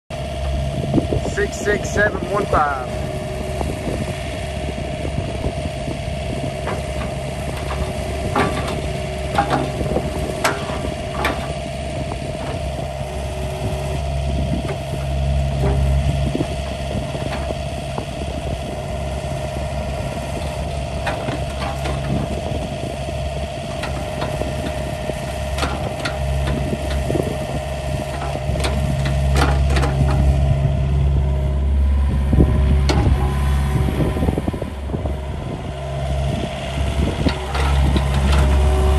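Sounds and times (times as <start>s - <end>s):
excavator diesel engine running: 0.1s - 38.9s
steady hydraulic whine: 0.1s - 38.9s.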